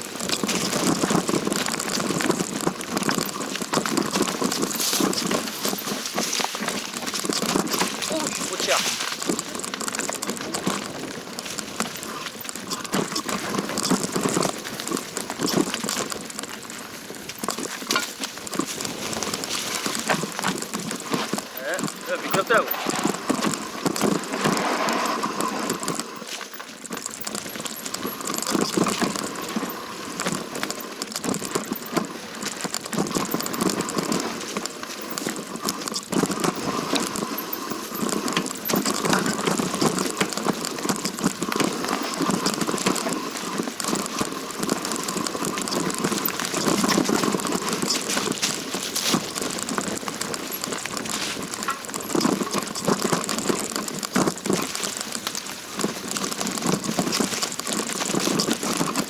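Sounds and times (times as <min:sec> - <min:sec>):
footsteps crunching on rough trail: 0:00.0 - 0:59.0.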